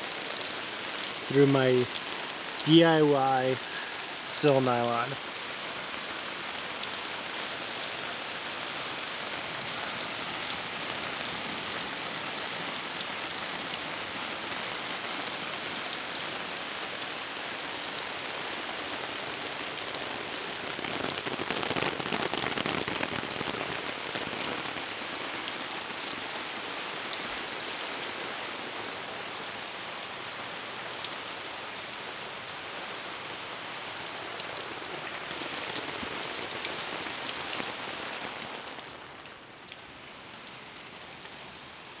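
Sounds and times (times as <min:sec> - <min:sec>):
water running onto wet grass: 0:00.0 - 0:26.3, 0:32.9 - 0:41.7
water pattering on a tarp: 0:00.0 - 0:28.7, 0:29.4 - 0:41.8.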